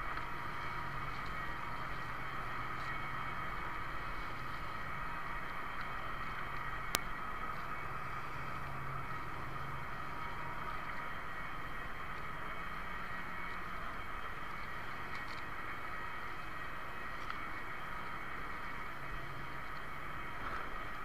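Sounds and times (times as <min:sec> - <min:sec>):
mechanical hum with held tones: 0:00.0 - 0:21.0
water noise: 0:00.0 - 0:21.0
wind: 0:00.0 - 0:21.0.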